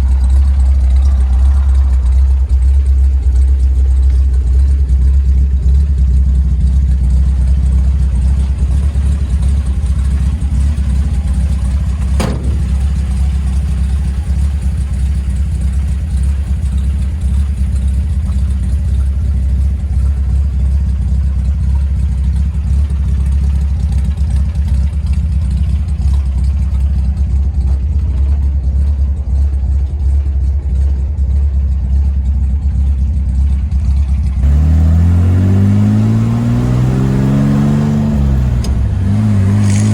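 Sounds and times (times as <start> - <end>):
engine exhaust low drone: 0.0 - 39.9.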